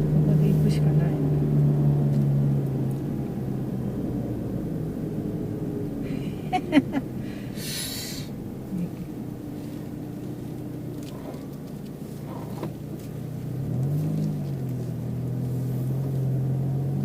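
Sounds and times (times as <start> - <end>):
car engine accelerating: 0.0 - 17.0
road noise inside car: 0.0 - 17.0.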